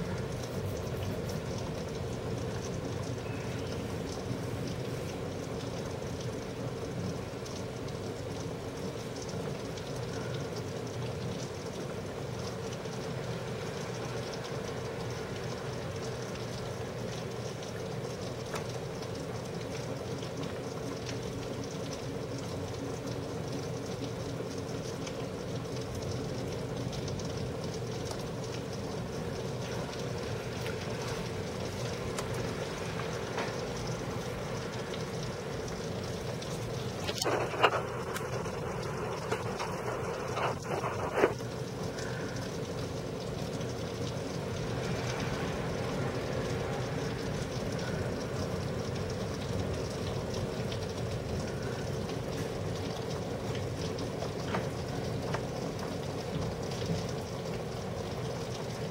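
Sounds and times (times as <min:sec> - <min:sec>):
constant low hum: 0:00.0 - 0:58.7
raindrop ticks: 0:00.0 - 0:58.9
steady rain falling: 0:00.0 - 0:58.9.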